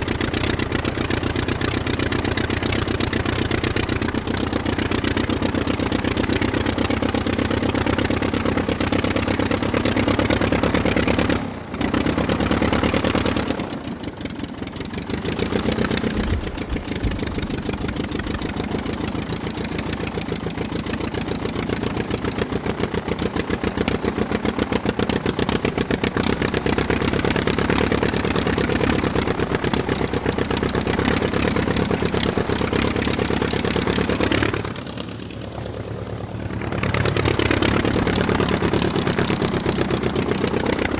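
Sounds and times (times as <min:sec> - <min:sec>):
aircraft piston engine running: 0:00.0 - 0:40.9.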